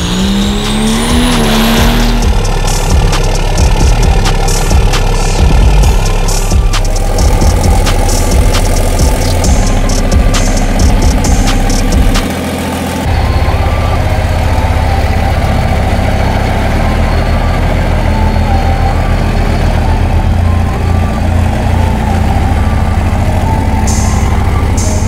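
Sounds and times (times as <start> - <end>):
dragster engine idling: 2.0 - 25.0.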